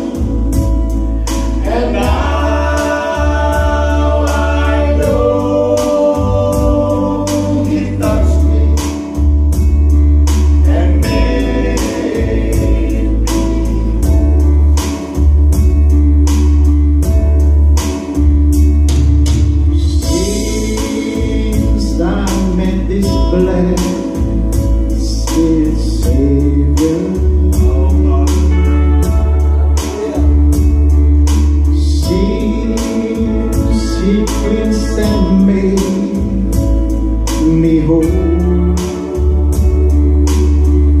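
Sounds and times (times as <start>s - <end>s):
man singing into microphone: 0.0s - 9.3s, 10.5s - 14.5s, 19.8s - 30.9s, 31.6s - 41.0s
deep sustained bass: 0.0s - 41.0s
instrumental music with steady beat: 0.0s - 41.0s.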